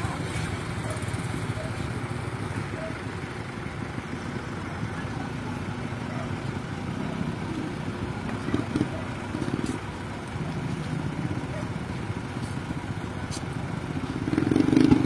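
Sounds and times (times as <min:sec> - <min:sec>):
motorcycle engines idling: 0:00.0 - 0:15.0
voices: 0:00.0 - 0:15.0.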